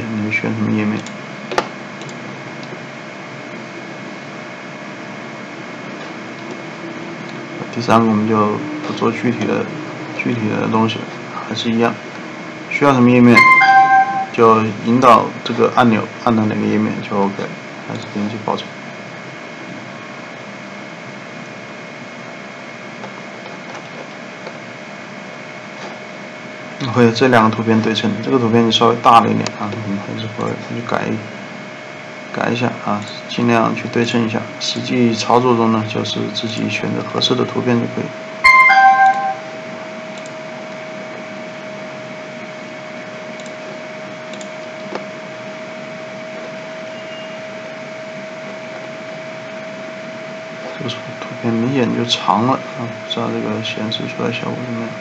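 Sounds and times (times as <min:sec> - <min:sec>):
faint hum: 0:00.0 - 0:55.0.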